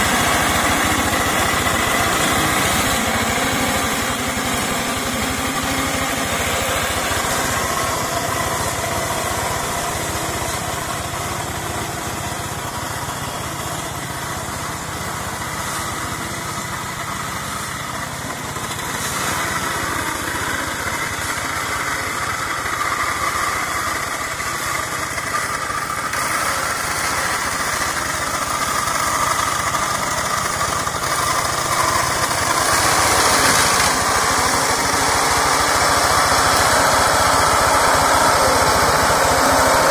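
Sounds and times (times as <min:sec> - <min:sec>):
diesel engine running: 0:00.0 - 0:39.9
mower cutting through undergrowth: 0:00.0 - 0:39.9.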